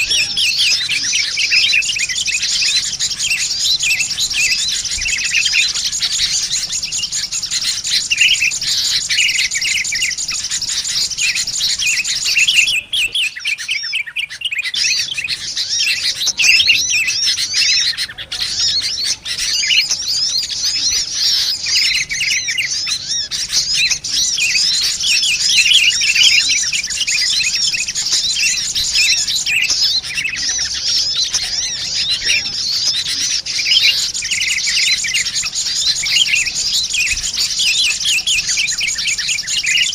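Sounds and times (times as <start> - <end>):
noisy bulbul calls: 0.0 - 39.9
small birds chirping: 0.0 - 39.9.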